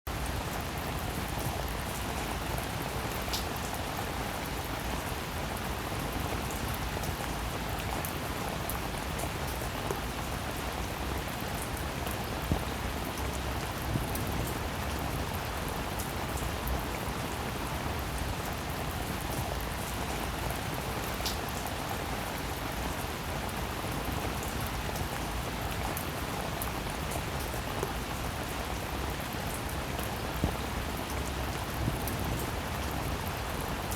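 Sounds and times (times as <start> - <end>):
rain patter: 0.1 - 33.9.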